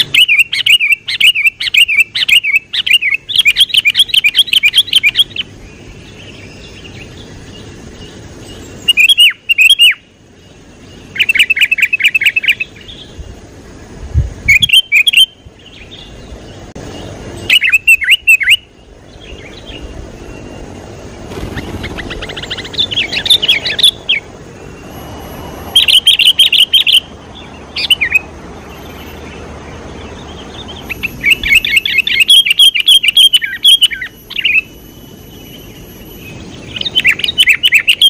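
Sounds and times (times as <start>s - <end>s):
bird chirping: 0.0s - 13.8s, 14.4s - 38.0s.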